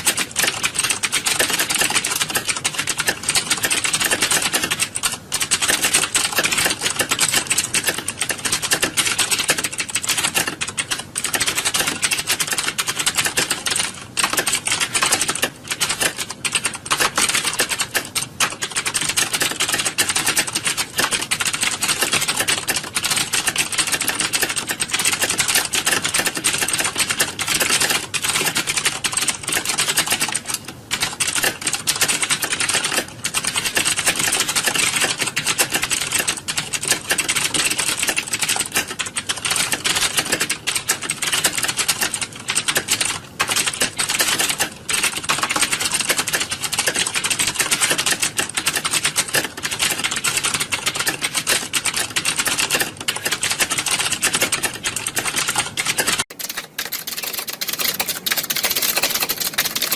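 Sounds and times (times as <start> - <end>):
many keyboards clacking: 0.0 - 59.9.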